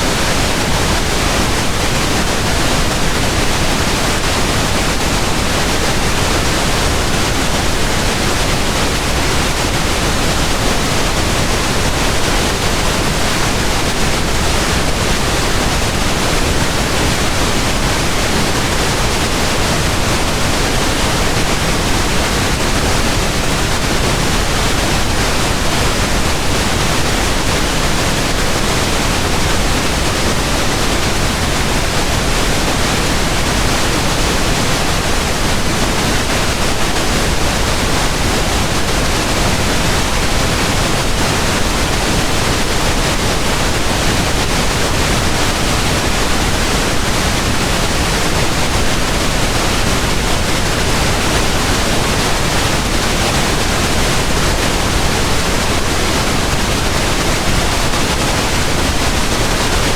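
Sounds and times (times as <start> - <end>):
steady pink noise hiss: 0.0 - 59.9.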